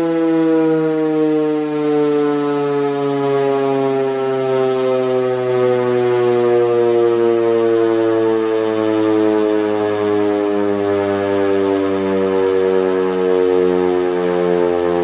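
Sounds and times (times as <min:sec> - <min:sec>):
dual-tone warning siren: 0:00.0 - 0:15.0.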